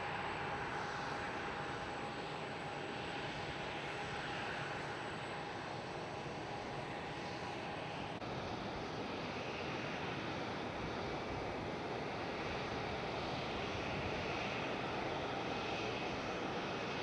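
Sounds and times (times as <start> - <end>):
airliner engine roar: 0.0 - 17.0.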